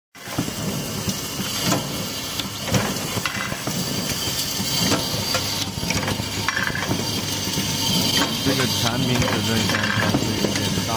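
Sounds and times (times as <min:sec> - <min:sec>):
machine clicks and clatter: 0:00.2 - 0:10.9
machine running: 0:00.2 - 0:10.9.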